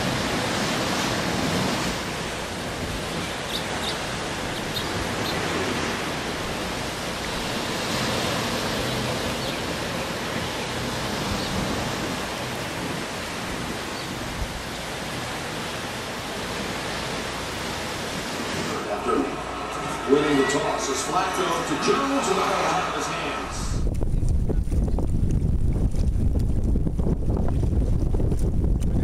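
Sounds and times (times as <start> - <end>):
surf: 0.0 - 24.8
wind: 0.0 - 29.0.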